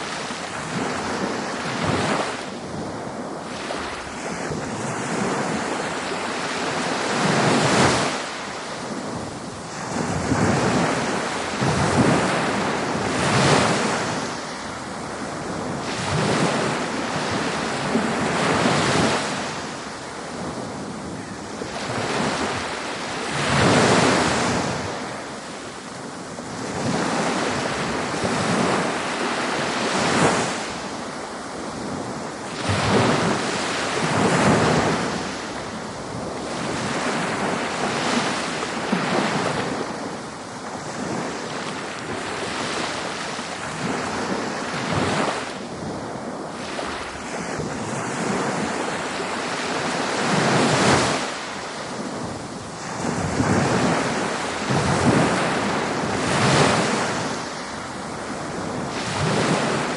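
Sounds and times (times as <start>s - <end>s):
ocean waves breaking on a beach: 0.0s - 59.9s.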